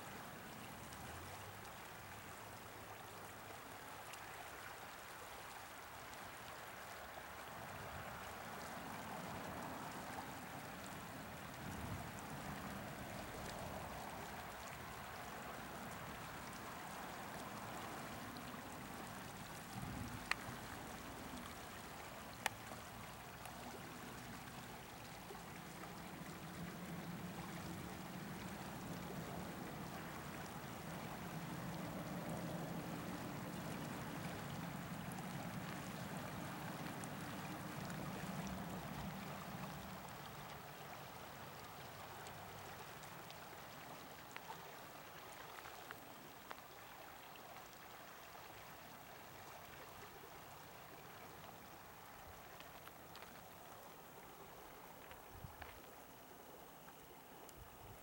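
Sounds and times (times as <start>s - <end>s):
creek babbling over stones: 0.0s - 58.0s.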